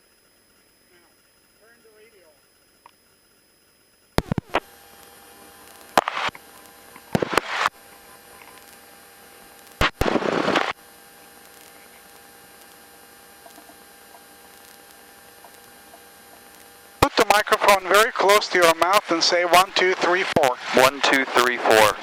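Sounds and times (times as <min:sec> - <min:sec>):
electrical hum and hiss: 0:00.0 - 0:22.0
static crackle bursts: 0:04.2 - 0:22.0.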